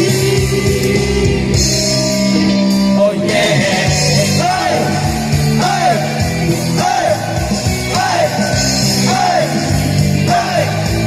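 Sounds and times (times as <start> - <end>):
bass guitar: 0.0 - 11.0
drums: 0.0 - 11.0
rock band playing: 0.0 - 11.0.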